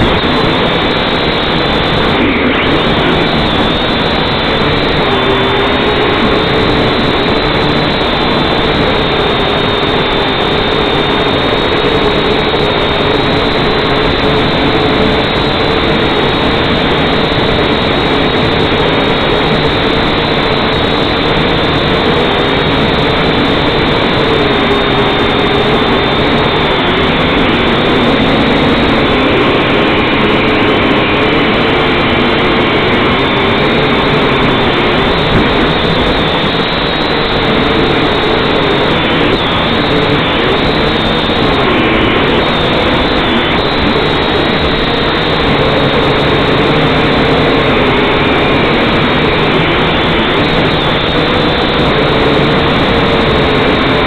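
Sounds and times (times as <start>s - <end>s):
dense rushing noise: 0.0s - 54.0s
drone propellers whining: 0.0s - 54.0s.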